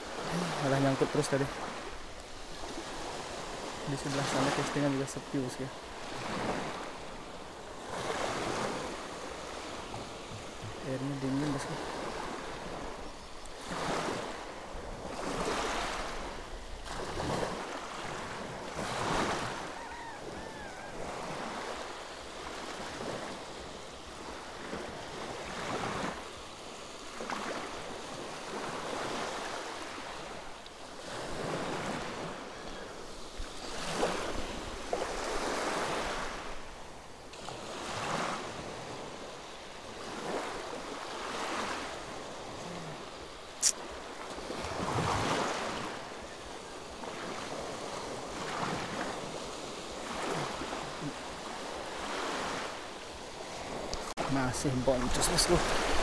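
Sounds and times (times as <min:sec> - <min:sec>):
small waves washing onto beach: 0:00.0 - 0:56.0.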